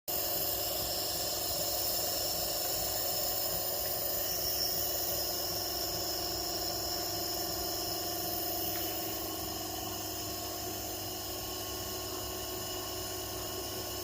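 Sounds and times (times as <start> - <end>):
nebulizer hissing: 0.1 - 14.0.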